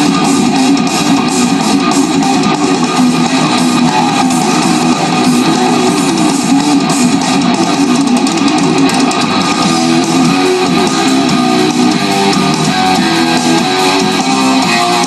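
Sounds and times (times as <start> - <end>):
guitar music over loudspeakers: 0.0 - 15.0.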